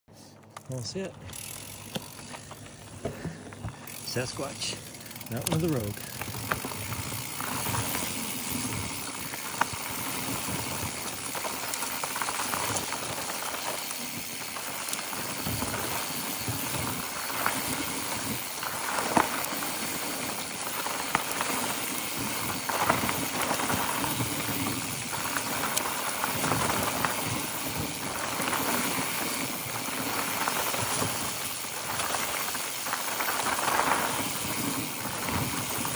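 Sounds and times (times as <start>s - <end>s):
bike clicks and knocks: 0.4s - 35.9s
bike tyres rushing on dirt: 0.7s - 35.9s.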